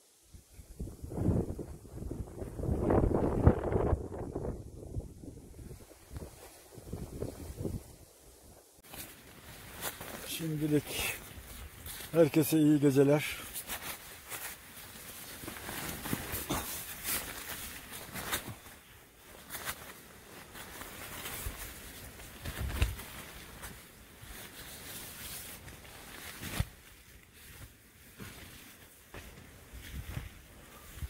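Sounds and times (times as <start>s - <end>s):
rustling and clicks of movement: 5.7s - 31.0s.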